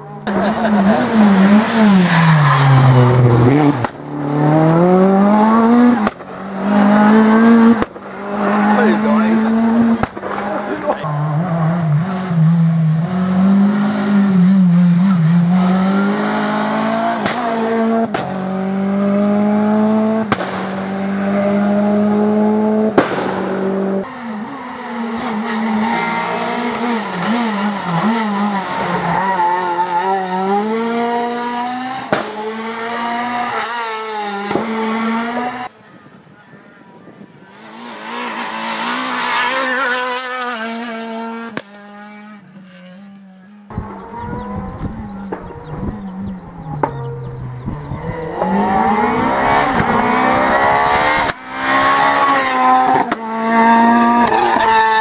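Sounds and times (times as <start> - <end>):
rally car engines revving: 0.0 - 36.3, 37.0 - 55.0.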